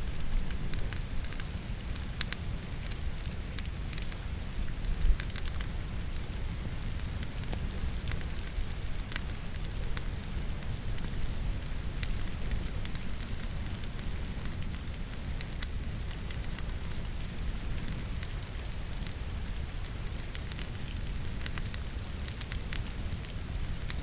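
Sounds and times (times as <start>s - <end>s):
fireplace fire crackling: 0.0s - 24.0s
rain pattering: 0.0s - 24.0s.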